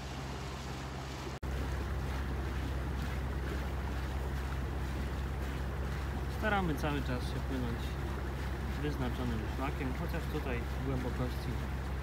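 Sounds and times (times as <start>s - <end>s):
motorboat engine droning: 0.0s - 12.0s
water noise: 0.0s - 12.0s
wind: 0.0s - 12.0s.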